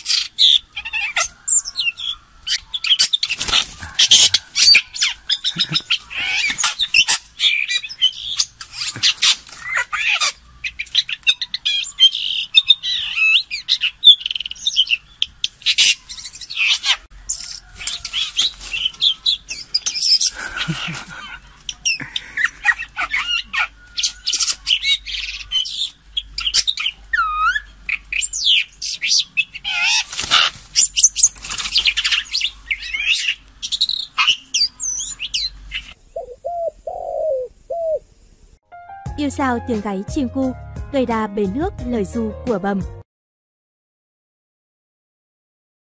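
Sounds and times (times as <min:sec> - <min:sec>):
bird chirps and squawks: 0:00.0 - 0:38.0.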